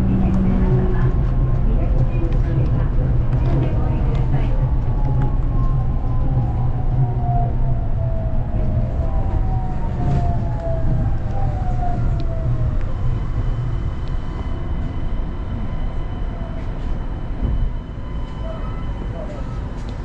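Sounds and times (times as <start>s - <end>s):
train running with low rumble: 0.0s - 20.0s.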